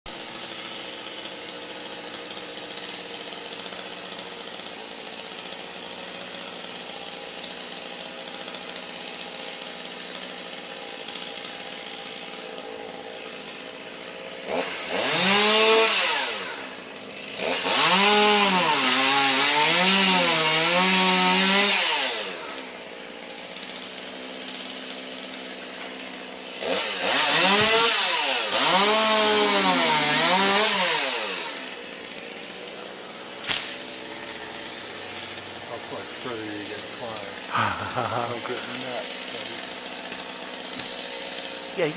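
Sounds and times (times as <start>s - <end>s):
chainsaw idling: 0.1s - 41.9s
chainsaw revving while cutting wood: 0.1s - 41.9s.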